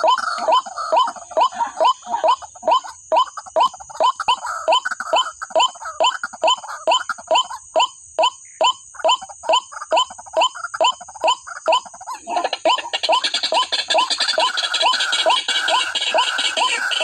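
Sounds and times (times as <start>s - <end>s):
waterhen calling: 0.0s - 7.6s, 8.2s - 17.0s.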